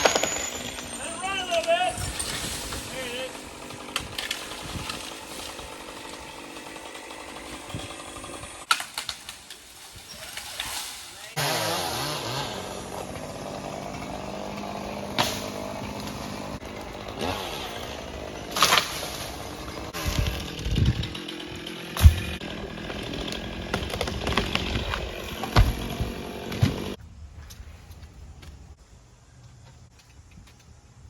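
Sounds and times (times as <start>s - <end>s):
chainsaw cutting wood: 0.0s - 27.0s
sharp wood cracks: 0.0s - 28.6s.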